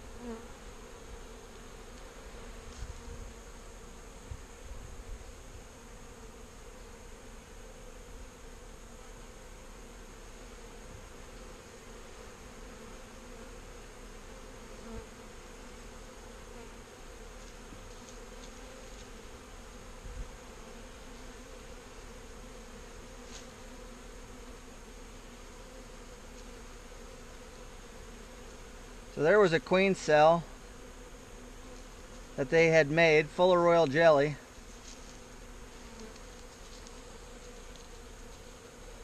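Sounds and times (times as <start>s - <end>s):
bees humming: 0.0s - 39.0s.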